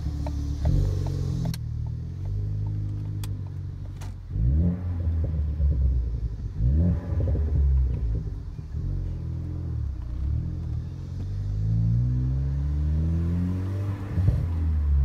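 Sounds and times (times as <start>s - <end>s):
car engine and exhaust driving: 0.0s - 15.0s.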